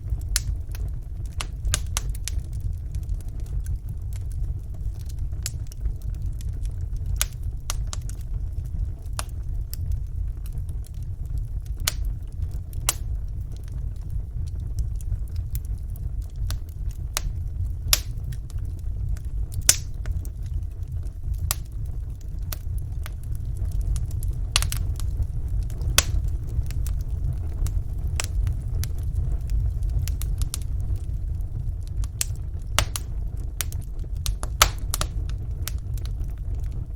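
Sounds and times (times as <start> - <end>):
fire crackles and pops: 0.0 - 36.9
wood fire rumbling: 0.0 - 36.9.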